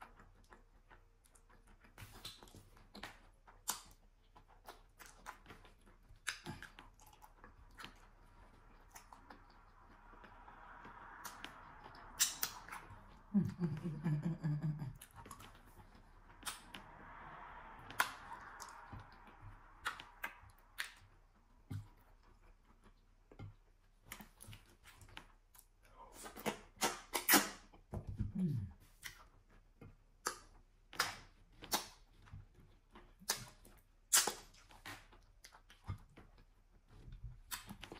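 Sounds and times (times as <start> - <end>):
wet mouth eating sounds: 0.0 - 37.9.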